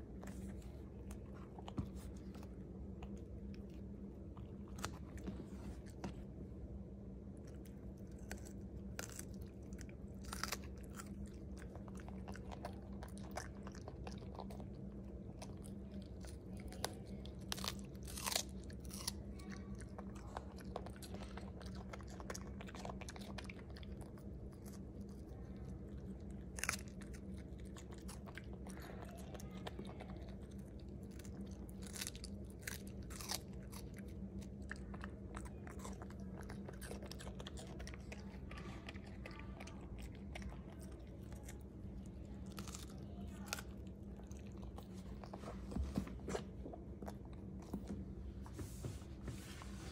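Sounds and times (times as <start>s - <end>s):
puppy chewing bell pepper: 0.0s - 48.8s
steady low hum: 0.0s - 49.9s.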